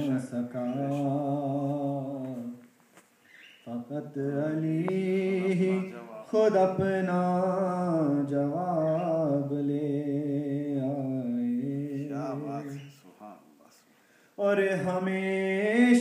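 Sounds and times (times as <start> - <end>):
man singing devotional chant: 0.0 - 2.6, 3.6 - 13.8, 14.4 - 16.0.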